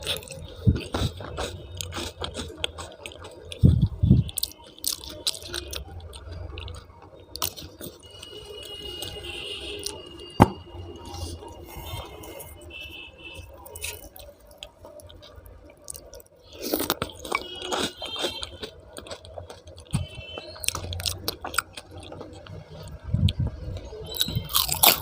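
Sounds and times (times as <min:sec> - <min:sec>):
chewing and wet mouth sounds: 0:00.0 - 0:25.0.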